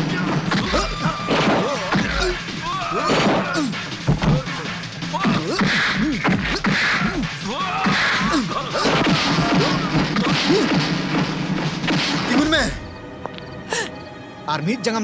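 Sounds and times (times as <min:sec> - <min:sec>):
background music: 0:00.0 - 0:15.0
punches and hits: 0:00.2 - 0:12.7.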